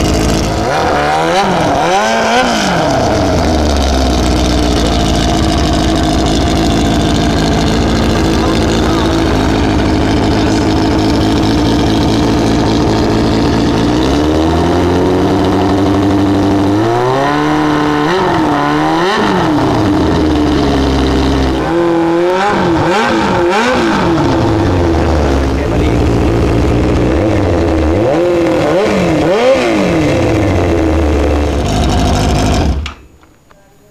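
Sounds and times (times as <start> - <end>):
motorcycle engine revving: 0.0 - 33.2.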